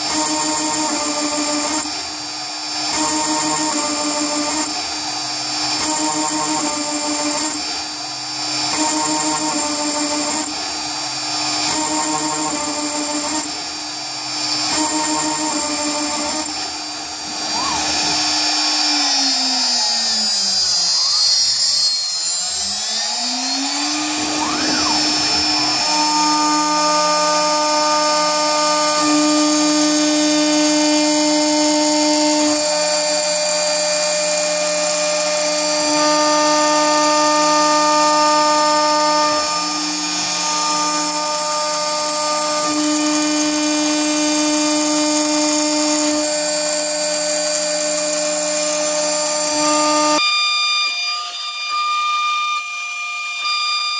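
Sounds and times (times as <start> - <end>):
router spindle high whine: 0.0 - 53.9.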